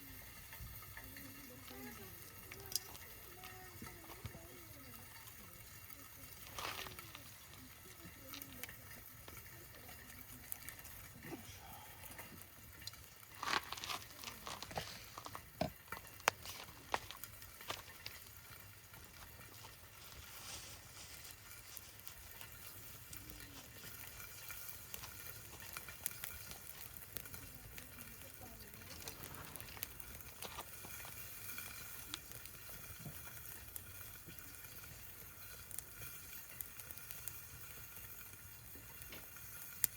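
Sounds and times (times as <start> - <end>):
fire pops and crackles: 0.0 - 39.9
steak sizzling on griddle: 0.0 - 39.9.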